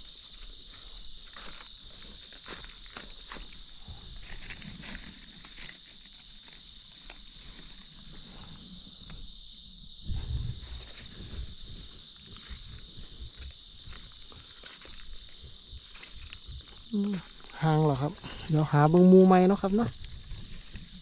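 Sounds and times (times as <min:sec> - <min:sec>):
insect chorus droning: 0:00.0 - 0:21.0.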